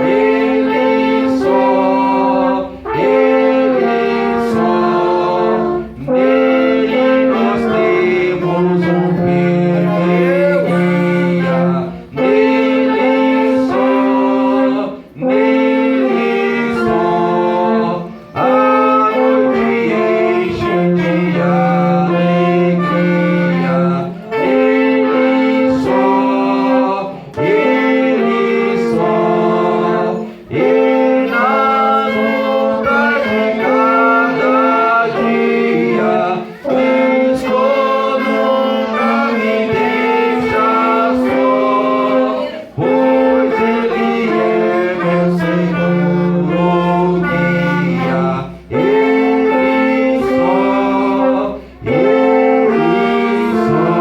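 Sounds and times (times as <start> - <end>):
gospel band playing a hymn: 0.0 - 54.0.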